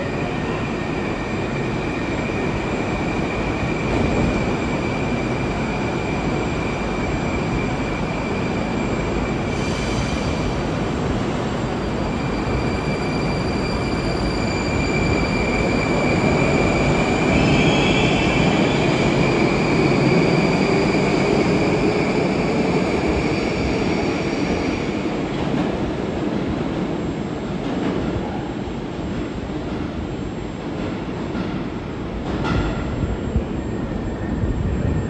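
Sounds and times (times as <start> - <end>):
train high whine: 0.0 - 30.7
metro train rumbling: 0.0 - 35.0.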